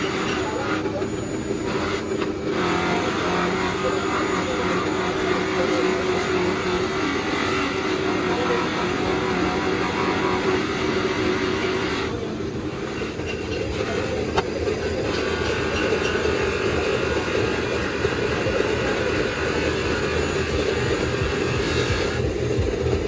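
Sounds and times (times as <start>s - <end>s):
motor hum: 0.0s - 23.0s.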